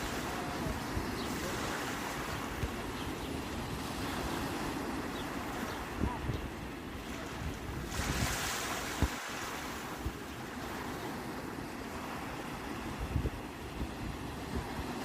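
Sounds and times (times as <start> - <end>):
wind buffeting microphone: 0.0 - 10.9, 12.0 - 15.0
sea waves washing on shore: 0.0 - 15.0.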